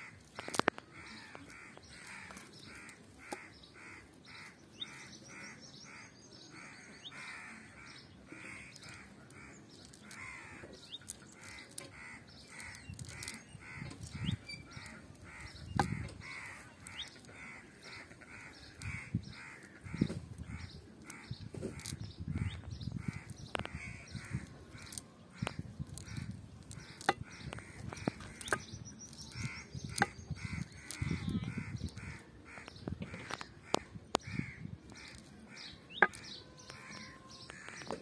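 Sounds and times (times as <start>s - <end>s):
bird calling: 0.0s - 38.0s.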